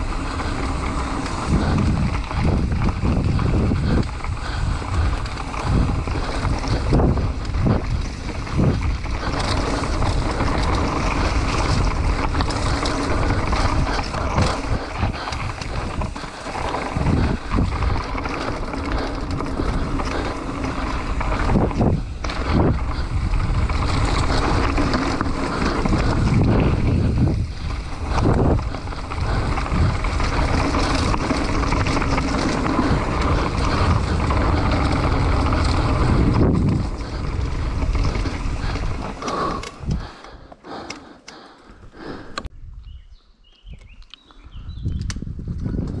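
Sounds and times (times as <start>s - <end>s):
wind buffeting microphone: 0.0s - 40.8s, 41.7s - 46.0s
bike tyres rumbling over dirt: 0.0s - 42.5s, 44.5s - 46.0s.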